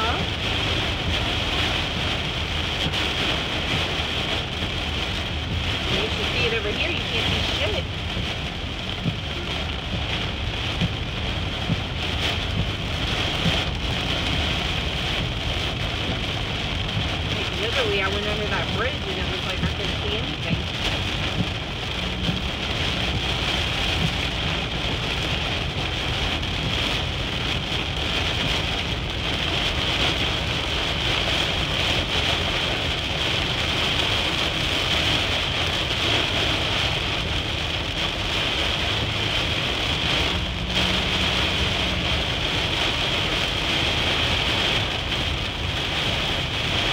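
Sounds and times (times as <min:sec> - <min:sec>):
heavy rain on windshield: 0:00.0 - 0:46.9
low car rumble: 0:00.0 - 0:46.9.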